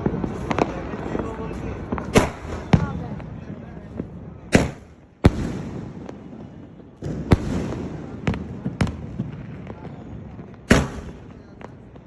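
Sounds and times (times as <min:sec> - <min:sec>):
fireworks crackling and rumble: 0:00.0 - 0:12.0
fireworks reports: 0:00.0 - 0:12.0.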